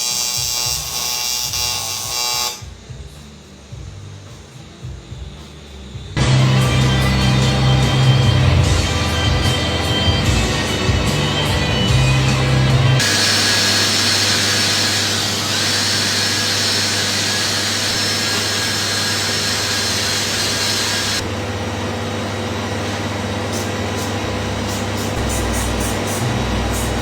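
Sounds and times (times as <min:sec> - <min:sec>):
metalworking machine hiss and whine: 0:00.0 - 0:27.0
low machine hum: 0:02.7 - 0:27.0.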